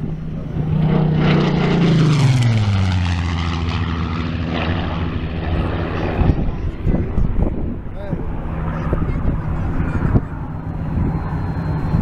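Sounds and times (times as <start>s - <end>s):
propeller plane engine flypast: 0.0s - 12.0s.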